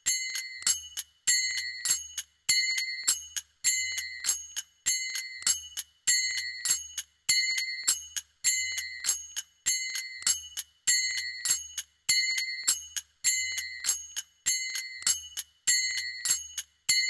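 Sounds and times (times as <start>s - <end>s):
small hand cymbals playing rhythm: 0.0s - 17.0s.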